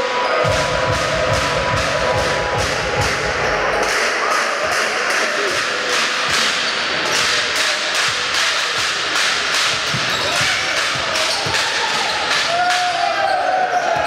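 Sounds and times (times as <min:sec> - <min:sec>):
voices in a hall: 0:00.0 - 0:14.0.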